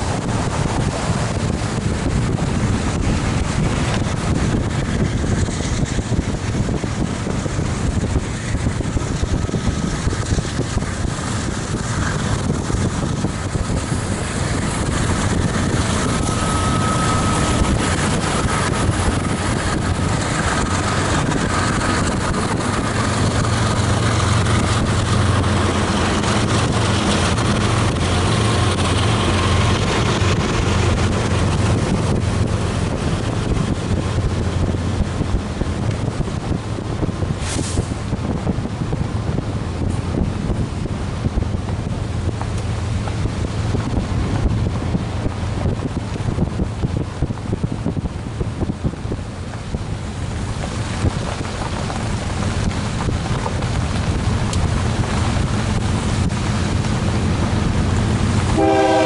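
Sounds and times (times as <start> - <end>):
freight train rumbling past: 0.0 - 59.0
wind noise on microphone: 0.0 - 59.0.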